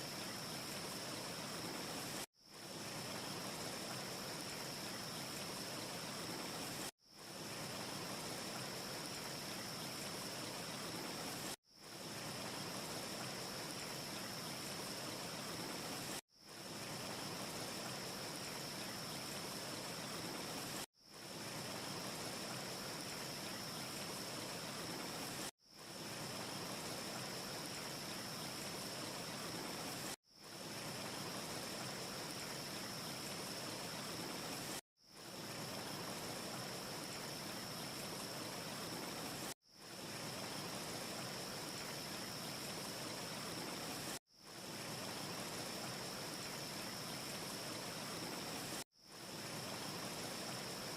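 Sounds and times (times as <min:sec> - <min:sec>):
rushing hiss-like ambience: 0:00.0 - 0:50.9.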